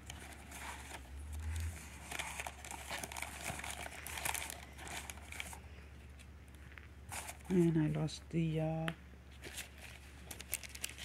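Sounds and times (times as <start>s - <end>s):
paper rustling and crinkling: 0.0s - 8.1s, 9.3s - 11.0s.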